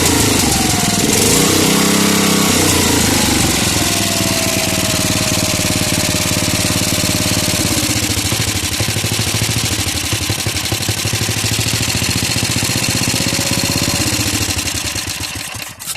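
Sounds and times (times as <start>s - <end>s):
walk-behind tractor engine running: 0.0s - 15.9s.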